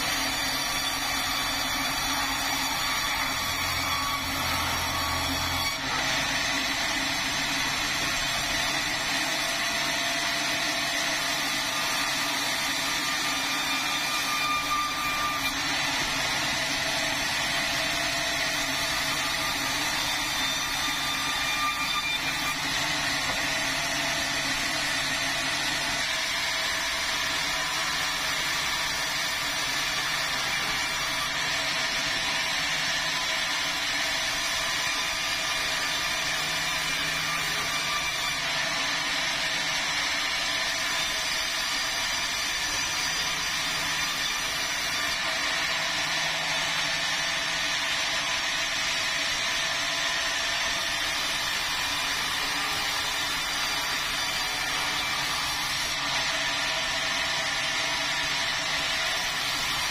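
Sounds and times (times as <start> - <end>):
power saw cutting log: 0.0 - 59.9.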